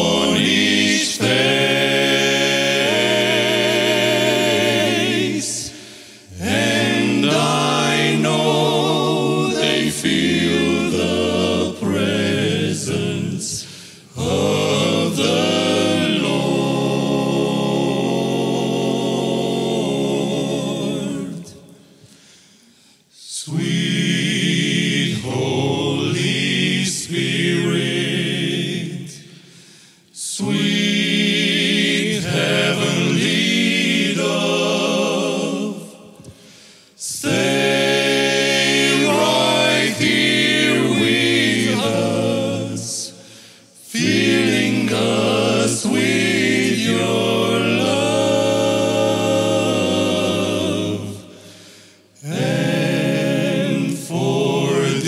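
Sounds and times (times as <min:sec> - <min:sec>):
male vocal quartet singing: 0:00.0 - 0:55.0.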